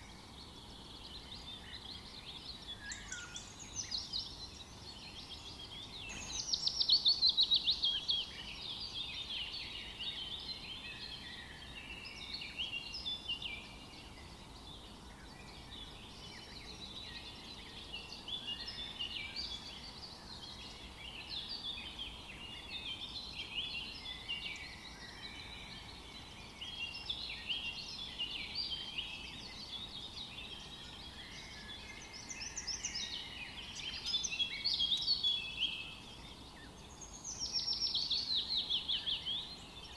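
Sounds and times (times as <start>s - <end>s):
background hiss: 0.0s - 39.9s
songbirds singing: 0.0s - 39.9s.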